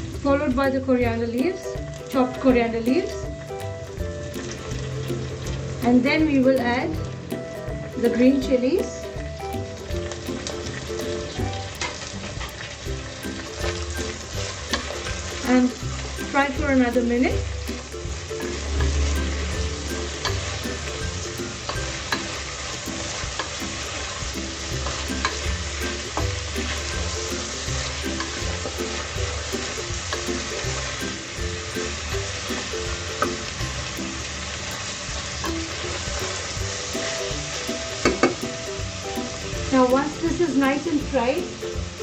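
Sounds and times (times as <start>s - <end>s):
pan being stirred: 1.4s - 42.0s.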